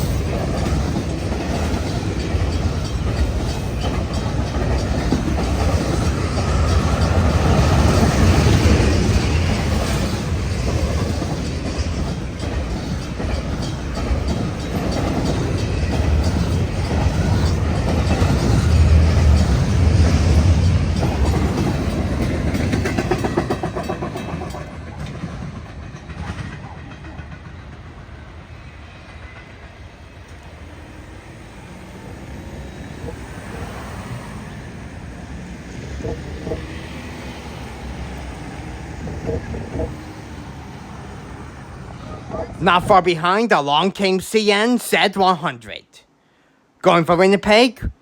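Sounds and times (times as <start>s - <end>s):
wheels clicking over rail joints: 0.0s - 28.2s, 29.1s - 42.6s
train wheels rumbling on rails: 0.0s - 44.7s.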